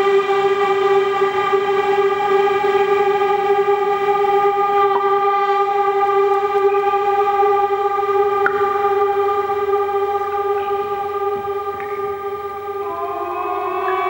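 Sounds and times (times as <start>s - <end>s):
trumpet holding long note: 0.0s - 14.0s.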